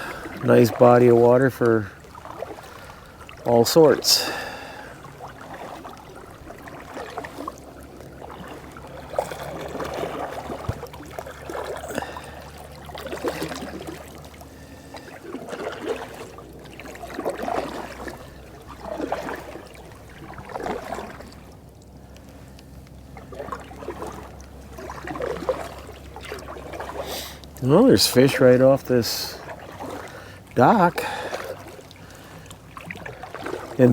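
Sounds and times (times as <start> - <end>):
paddle strokes splashing in water: 0.0 - 33.9.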